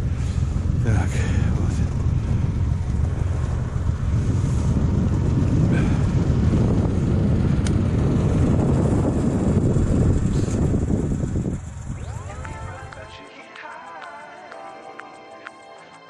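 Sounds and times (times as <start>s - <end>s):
snowmobile engine rumbling: 0.0s - 13.0s
wind buffeting microphone: 0.0s - 13.1s.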